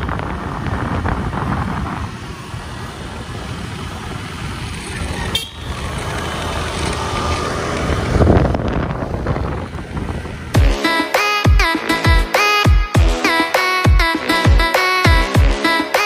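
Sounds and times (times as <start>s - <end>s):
motorcycle engine running: 0.0s - 13.2s
road and wind noise: 0.0s - 16.0s.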